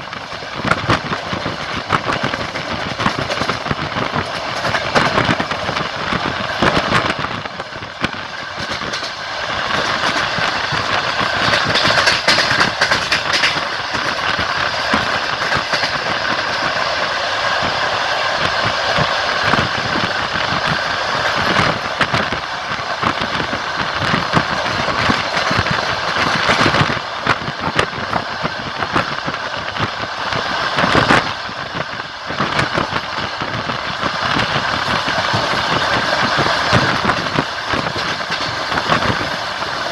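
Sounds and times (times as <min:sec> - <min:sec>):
wheels clicking over rail joints: 0:00.0 - 0:17.1, 0:18.5 - 0:39.9
train rolling and rattling: 0:00.0 - 0:39.9.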